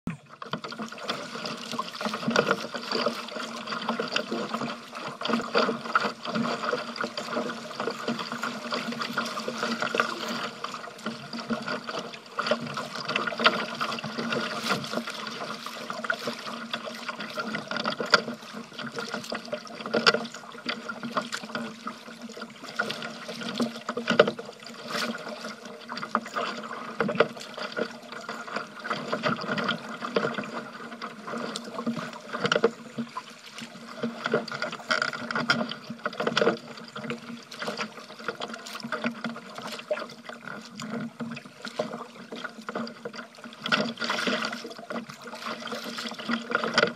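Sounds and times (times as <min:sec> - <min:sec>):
water splashing against kayak: 0:00.1 - 0:46.9.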